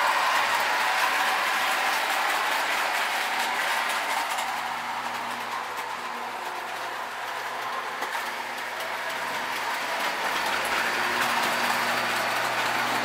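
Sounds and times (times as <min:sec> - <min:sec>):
toy train rolling rattle: 0:00.0 - 0:13.0.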